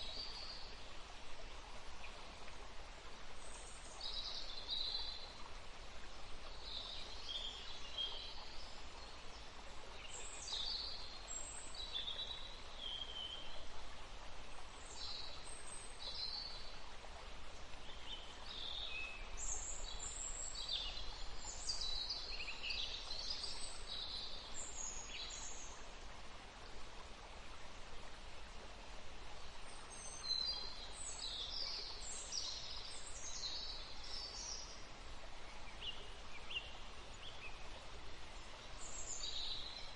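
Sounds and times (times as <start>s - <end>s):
forest stream rushing: 0.0s - 39.9s
songbirds chirping: 0.0s - 39.9s.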